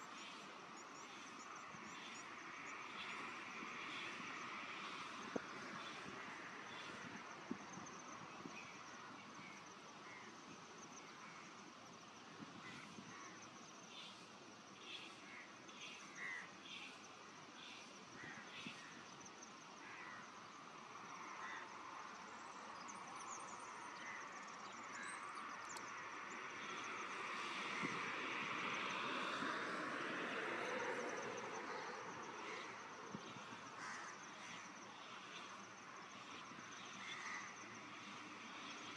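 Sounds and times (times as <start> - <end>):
background hiss: 0.0 - 29.5, 30.5 - 38.9.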